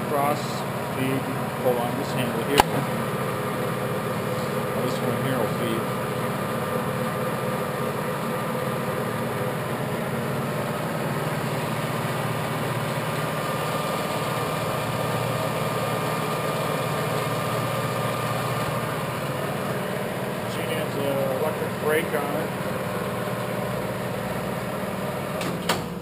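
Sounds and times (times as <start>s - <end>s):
lathe gearbox hum and whine: 0.0s - 26.0s.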